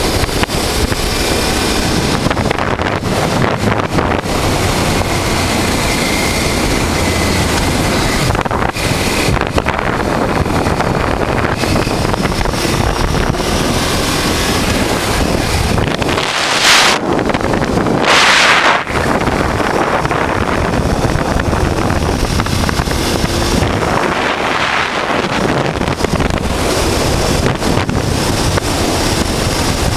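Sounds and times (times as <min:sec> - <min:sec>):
motorcycle engine running: 0:00.0 - 0:29.9
wind rushing over microphone: 0:00.0 - 0:29.9.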